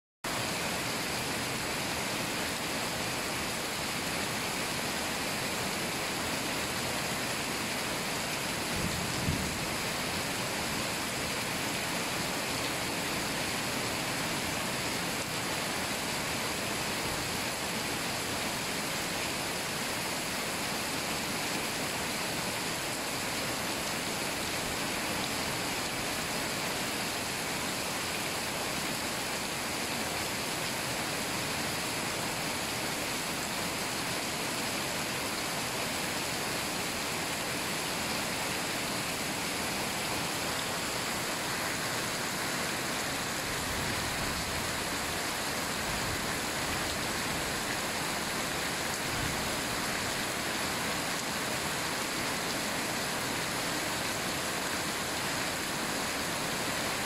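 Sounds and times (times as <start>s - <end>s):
heavy rain on trees: 0.2s - 57.0s.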